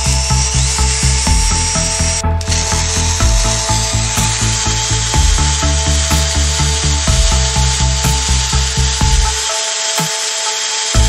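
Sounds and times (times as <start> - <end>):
background music with steady beat: 0.0 - 11.0
electric drill boring into steel: 0.0 - 11.0.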